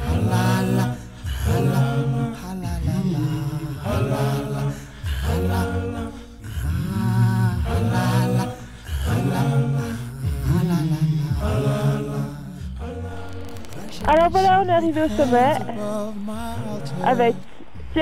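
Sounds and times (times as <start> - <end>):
slow chant-like singing: 0.0 - 18.0.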